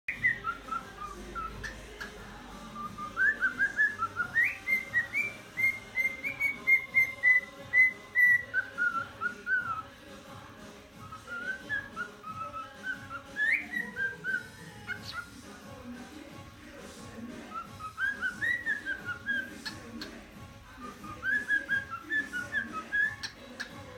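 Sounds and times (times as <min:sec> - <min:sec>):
cockatiel whistling a tune: 0:00.1 - 0:09.9, 0:10.9 - 0:15.4, 0:17.4 - 0:23.8.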